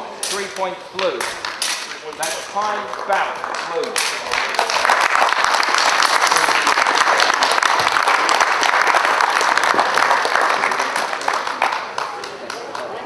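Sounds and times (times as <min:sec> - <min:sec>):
spectators clapping: 0:01.0 - 0:13.0.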